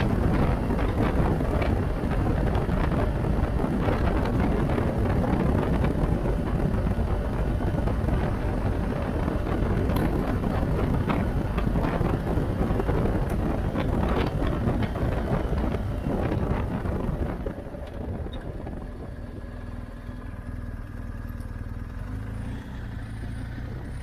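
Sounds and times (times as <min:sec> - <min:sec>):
wind rushing over microphone: 0:00.0 - 0:19.8
motorcycle engine and road rumble: 0:00.0 - 0:24.0.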